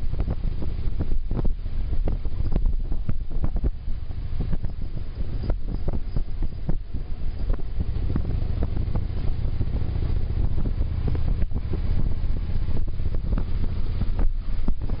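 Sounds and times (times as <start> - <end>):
motorcycle engine rumbling: 0.0 - 15.0
wind buffeting microphone: 0.0 - 15.0.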